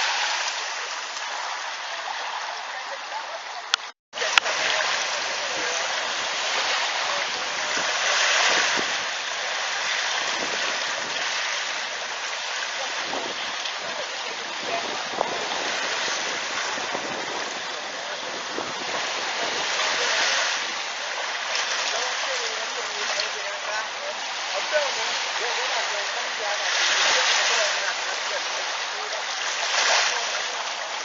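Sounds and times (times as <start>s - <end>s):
small sea waves on shore: 0.0s - 31.0s.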